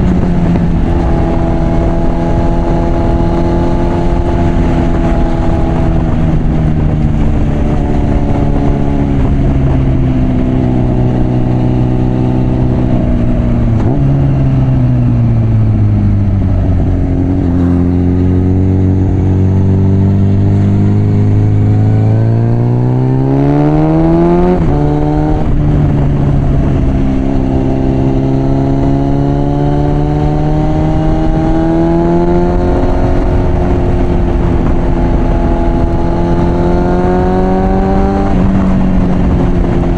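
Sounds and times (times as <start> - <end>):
motorcycle engine with loud exhaust: 0.0 - 39.9
wind noise: 0.0 - 39.9.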